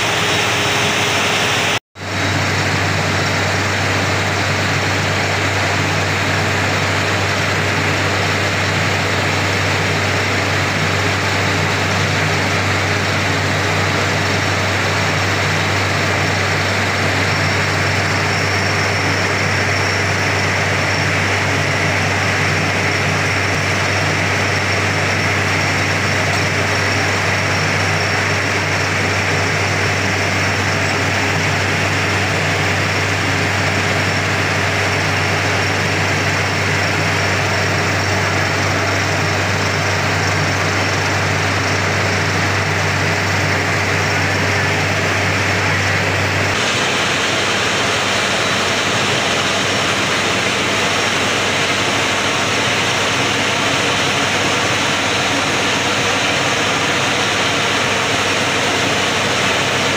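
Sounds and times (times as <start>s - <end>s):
drilling rig engine drone: 0.0s - 59.9s
loud mechanical hiss: 0.0s - 59.9s.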